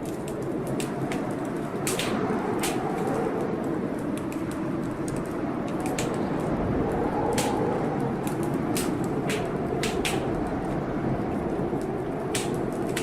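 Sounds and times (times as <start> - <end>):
heavy wind blowing: 0.0 - 13.0
wood fire crackling: 0.0 - 13.0.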